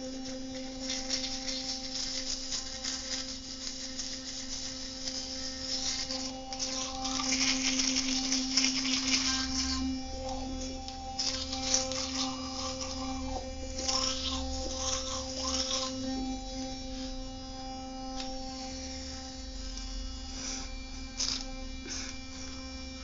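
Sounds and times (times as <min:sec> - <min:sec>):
electric toothbrush buzzing: 0:00.0 - 0:23.0.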